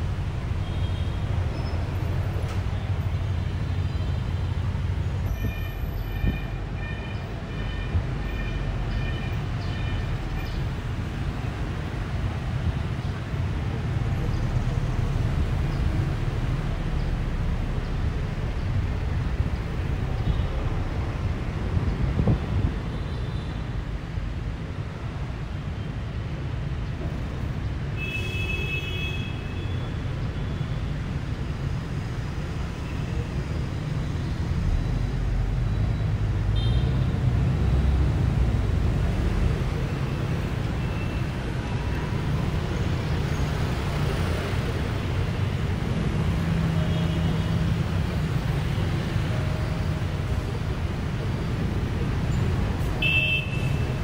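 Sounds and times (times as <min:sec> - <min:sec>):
bus and traffic rumble: 0:00.0 - 0:54.0.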